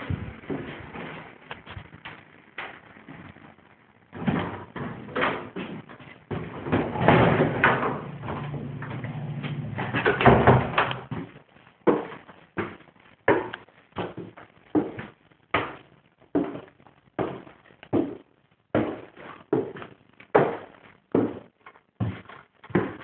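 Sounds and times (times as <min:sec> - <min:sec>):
footsteps walking: 0:00.0 - 0:23.0.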